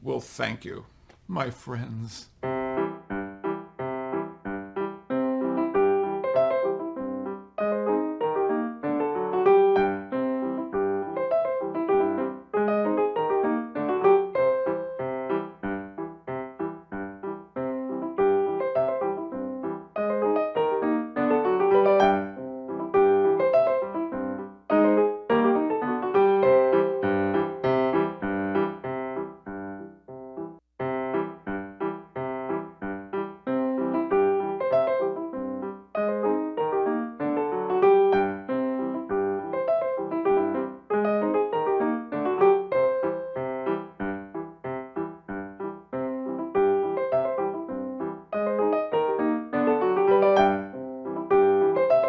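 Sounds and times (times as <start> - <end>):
piano music: 2.4 - 52.0.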